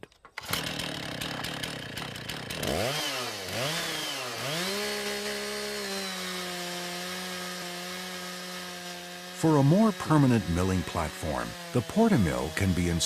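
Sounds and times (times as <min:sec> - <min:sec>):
chainsaw engine running: 0:00.4 - 0:13.0.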